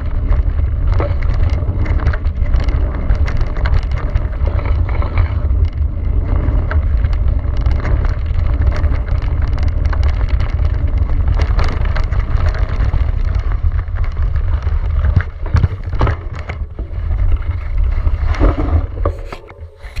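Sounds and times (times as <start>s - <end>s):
bike knocks and rattles: 0.0s - 20.0s
bike tyre noise: 0.0s - 20.0s
wind buffeting microphone: 0.0s - 20.0s.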